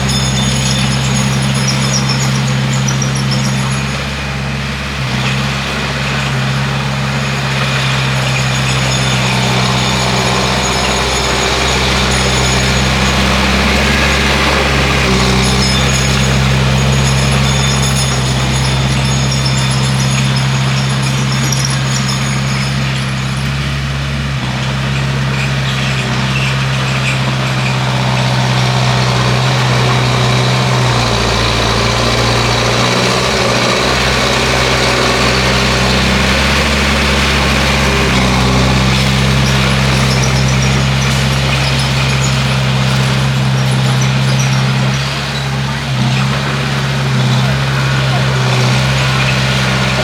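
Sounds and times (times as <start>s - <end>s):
bulldozer diesel engine: 0.0s - 50.0s.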